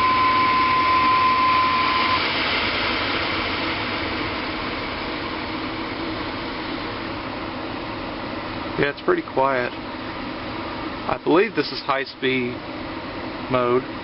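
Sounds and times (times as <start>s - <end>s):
furnace blower fan rushing air: 0.0s - 14.0s
steady whine: 0.0s - 14.0s.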